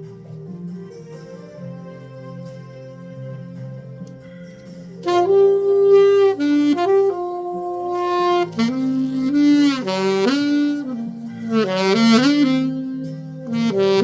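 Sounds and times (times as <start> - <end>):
saxophone melody: 0.0 - 14.0
soft backing track: 0.0 - 14.0.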